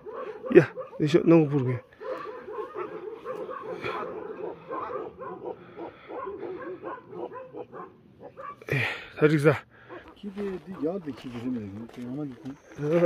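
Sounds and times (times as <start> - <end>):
many dogs barking and yipping: 0.0 - 8.7, 9.8 - 13.0.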